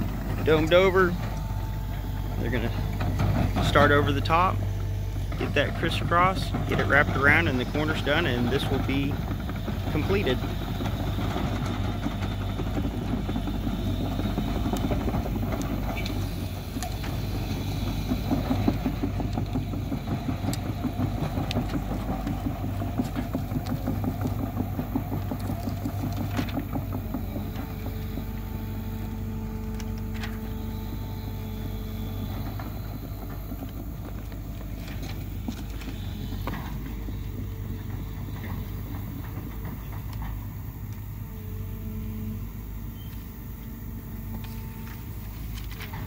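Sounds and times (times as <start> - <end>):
engine humming: 0.0 - 46.0.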